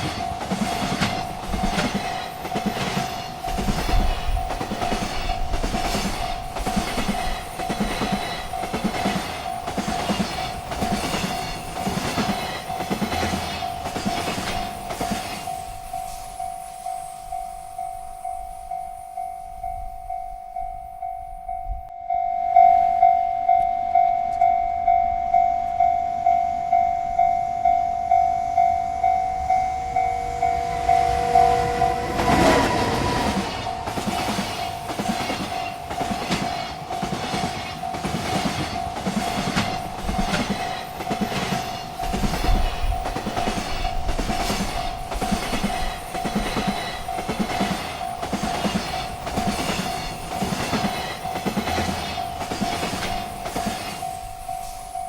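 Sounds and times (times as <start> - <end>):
train wheels clacking on rails: 0.0 - 21.2, 23.4 - 55.0
railroad crossing bell ringing: 0.0 - 55.0.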